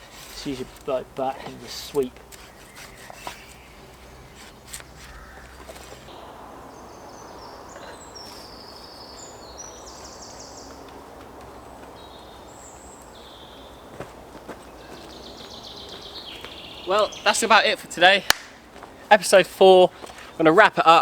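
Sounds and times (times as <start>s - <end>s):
small birds singing trills: 0.0s - 21.0s.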